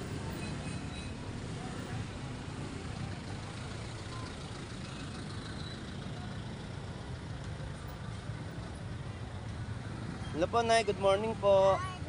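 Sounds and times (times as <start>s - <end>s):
street noise: 0.0s - 12.0s
vehicle engines rumbling: 0.0s - 12.0s.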